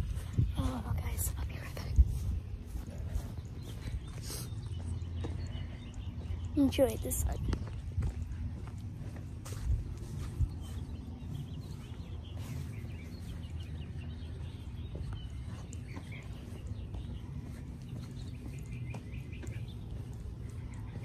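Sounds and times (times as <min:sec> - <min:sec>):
small birds chirping: 0:00.0 - 0:21.0
wind rumble on microphone: 0:00.0 - 0:21.0.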